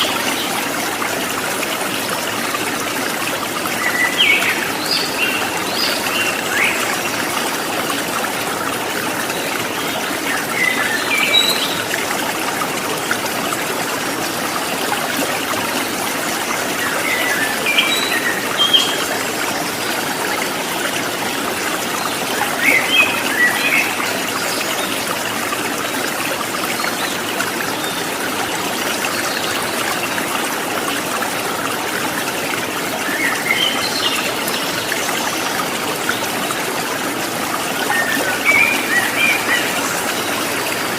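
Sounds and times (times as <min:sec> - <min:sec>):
running water babbling: 0:00.0 - 0:40.9.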